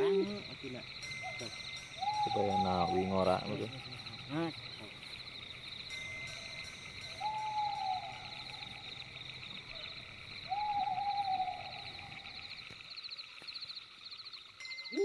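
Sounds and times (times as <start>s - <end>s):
long hooting calls: 0.0s - 12.7s
night insects trilling: 0.0s - 15.0s.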